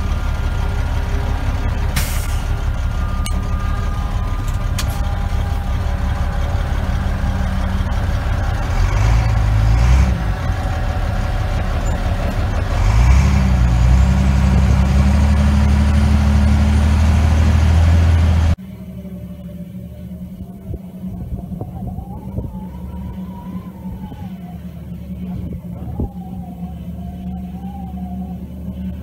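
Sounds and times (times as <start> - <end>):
truck engine inside cab: 0.0 - 29.0.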